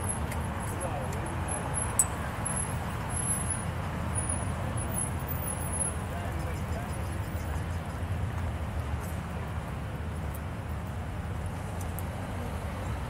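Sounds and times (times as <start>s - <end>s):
distant traffic rumble: 0.0s - 13.0s
open-air hubbub: 0.0s - 13.0s.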